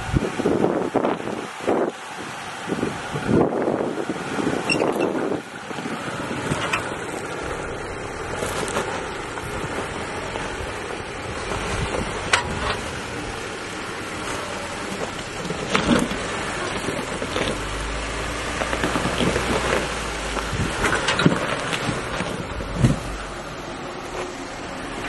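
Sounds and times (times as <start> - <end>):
wind noise on microphone: 0.0 - 23.3
engine running at low speed: 0.0 - 25.0.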